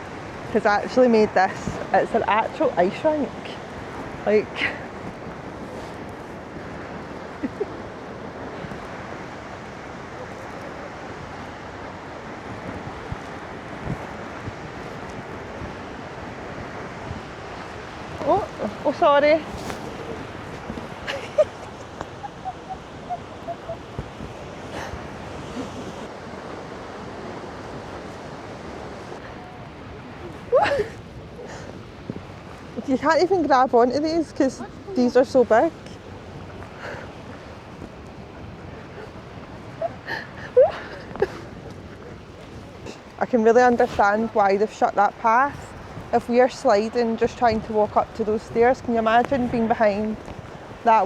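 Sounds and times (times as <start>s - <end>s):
waterfall roaring: 0.0s - 51.0s
wind buffeting microphone: 0.0s - 51.0s.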